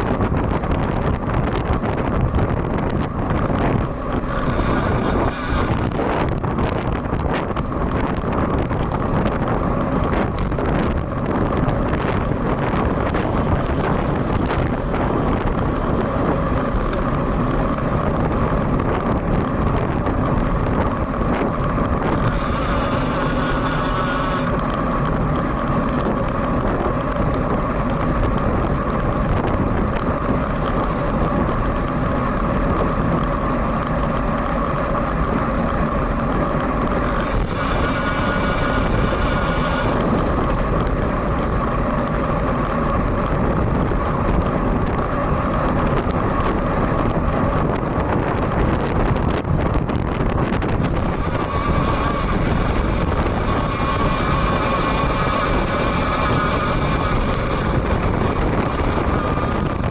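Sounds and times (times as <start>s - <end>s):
bicycle road noise in rain: 0.0s - 59.9s
wind buffeting microphone: 0.0s - 59.9s.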